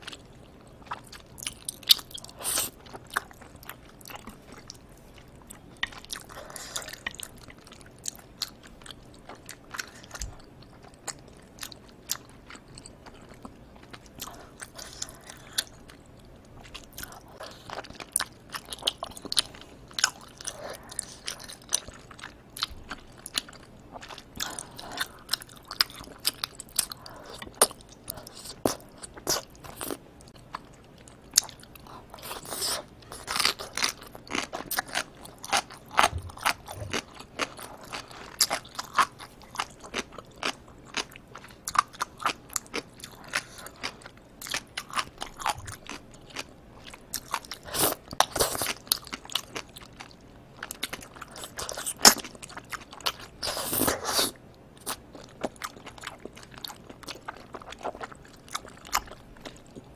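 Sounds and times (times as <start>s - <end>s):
mouth chewing and smacking: 0.0s - 59.9s.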